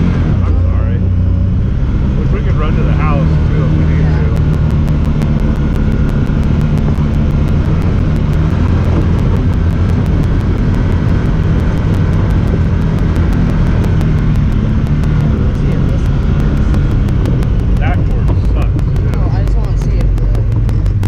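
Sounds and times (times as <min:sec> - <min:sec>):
rough-ground noise: 0:00.0 - 0:21.0
vehicle engine running: 0:00.0 - 0:21.0
rapid high camera ticking: 0:02.1 - 0:21.0.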